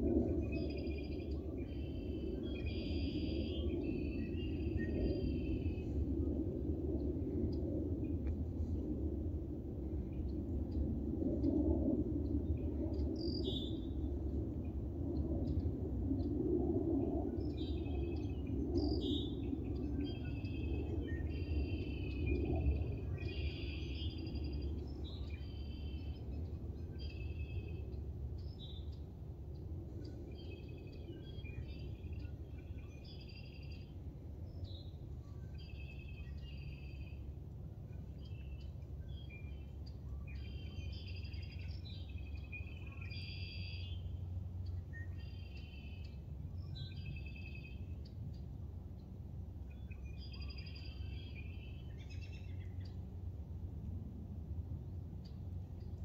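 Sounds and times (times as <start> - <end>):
songbirds chirping and trilling: 0.0 - 6.3, 9.8 - 14.1, 15.4 - 53.4
low background rumble: 0.0 - 56.0.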